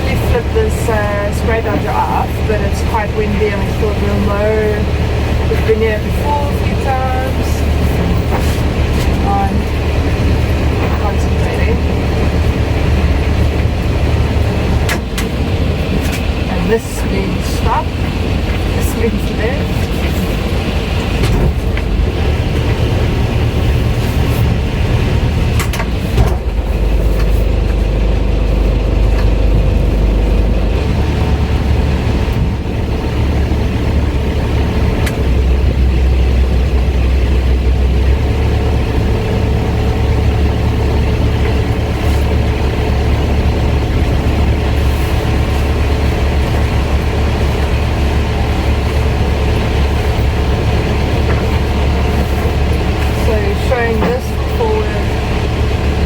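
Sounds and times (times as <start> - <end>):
boat engine running: 0.0 - 56.0
wind rumble on microphone: 0.0 - 56.0.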